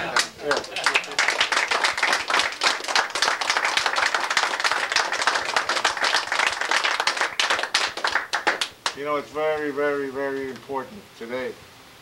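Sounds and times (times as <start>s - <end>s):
people clapping: 0.0s - 9.7s.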